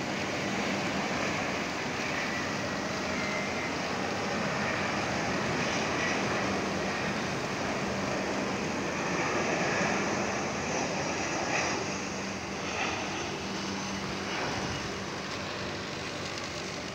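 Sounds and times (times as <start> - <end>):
jet airliner flying overhead: 0.0 - 16.9.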